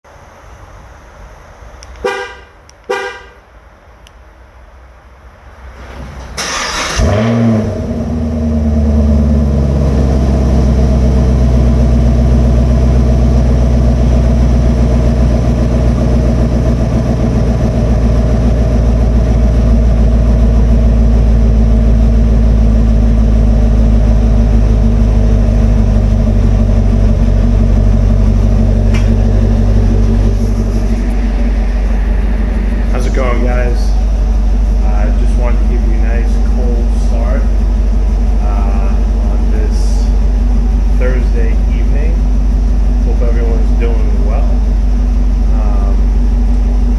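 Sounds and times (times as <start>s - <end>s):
car engine starting and idling: 0.6s - 46.9s.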